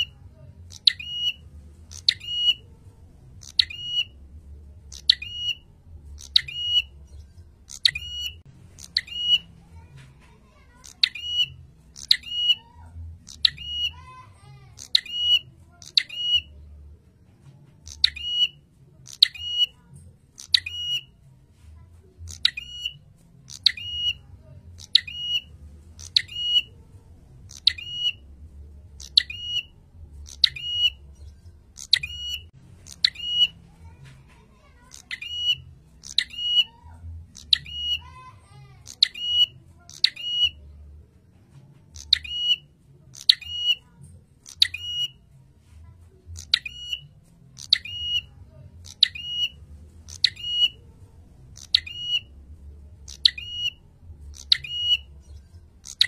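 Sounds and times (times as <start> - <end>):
prinia calling: 0.0 - 16.6, 17.8 - 21.2, 21.8 - 40.8, 41.8 - 45.3, 46.2 - 56.0.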